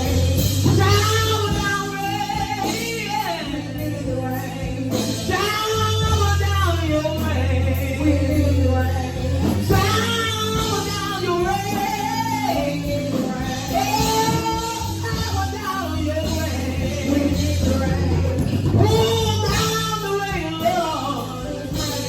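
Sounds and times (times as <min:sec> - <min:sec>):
band with guitar and bass: 0:00.0 - 0:22.0
woman singing gospel: 0:00.0 - 0:22.0.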